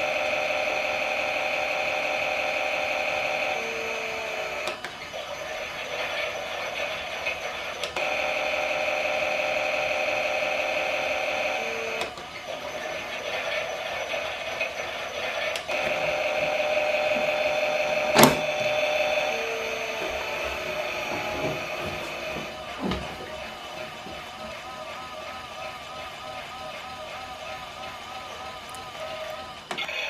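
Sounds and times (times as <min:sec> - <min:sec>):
toy washing machine motor whirring: 0:00.0 - 0:30.0.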